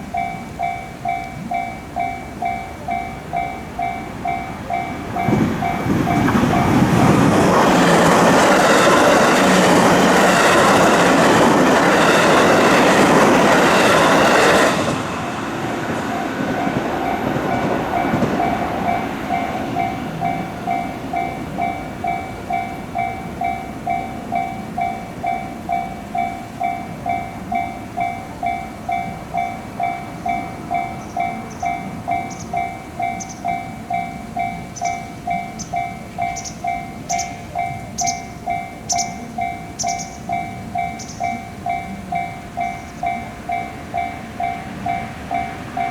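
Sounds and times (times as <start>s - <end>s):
train passing: 0.0s - 45.9s
two-tone crossing bell: 0.0s - 45.9s.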